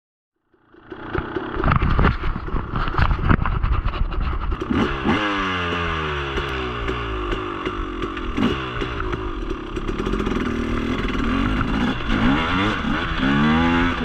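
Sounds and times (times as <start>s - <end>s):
dirt bike engine revving: 0.6s - 3.1s, 3.8s - 14.0s.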